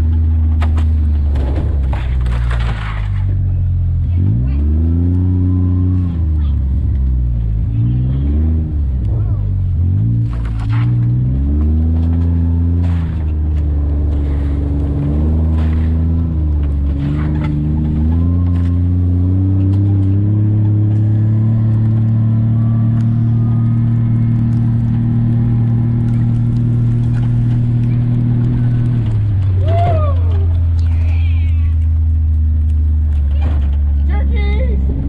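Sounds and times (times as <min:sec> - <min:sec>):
atv engine running: 0:03.2 - 0:35.0.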